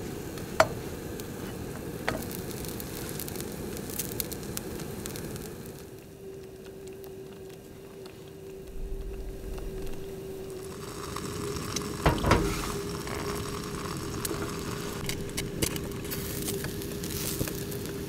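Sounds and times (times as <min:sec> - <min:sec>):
sandwich sizzling in a pan: 0:00.0 - 0:08.6, 0:09.6 - 0:18.0
steady low hum: 0:00.0 - 0:18.0.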